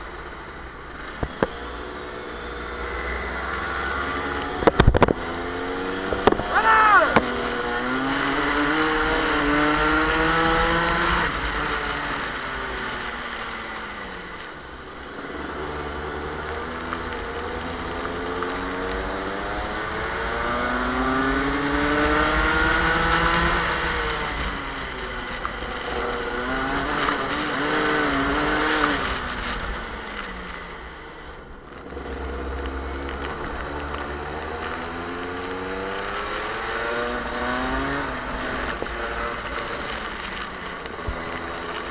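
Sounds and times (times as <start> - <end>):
kart engine revving: 0.0 - 41.9
wind and track spray hiss: 0.5 - 6.5, 7.2 - 41.9.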